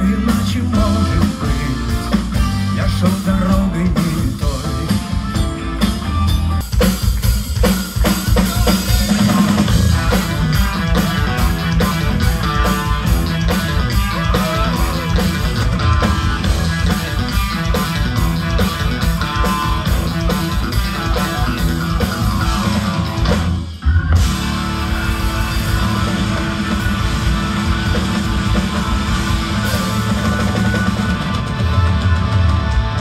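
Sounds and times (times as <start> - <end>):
rock band instrumental: 0.0 - 33.0.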